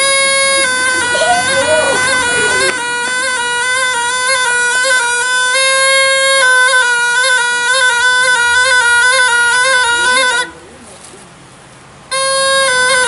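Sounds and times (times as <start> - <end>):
reed pipe playing a tune: 0.0 - 10.8, 12.0 - 13.0.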